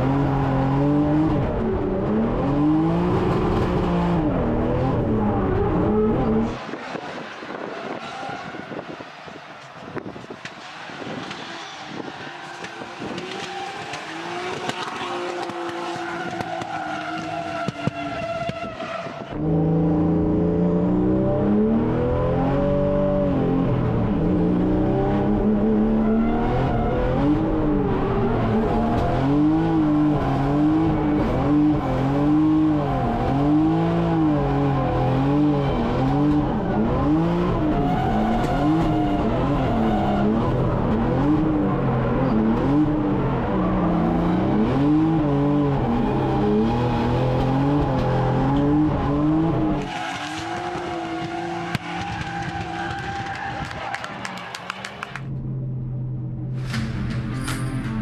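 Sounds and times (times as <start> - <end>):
car engine revving: 0.0 - 8.1, 10.5 - 18.7, 19.3 - 56.4.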